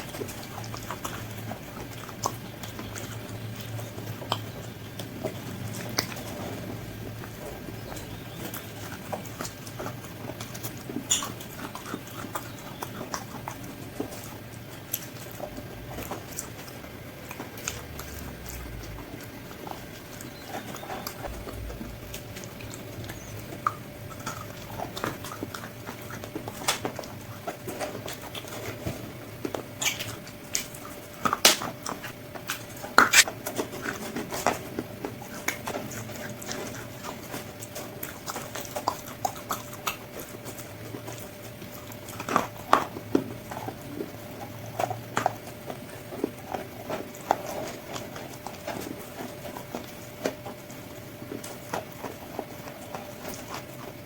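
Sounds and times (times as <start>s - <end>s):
crunching and chewing fried chicken: 0.0s - 54.0s.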